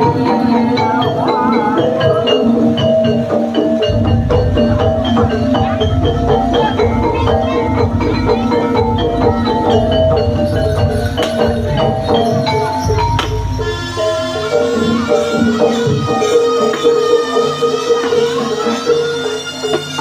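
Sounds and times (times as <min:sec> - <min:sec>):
drums: 0:00.0 - 0:20.0
gamelan metallophone notes: 0:00.0 - 0:20.0.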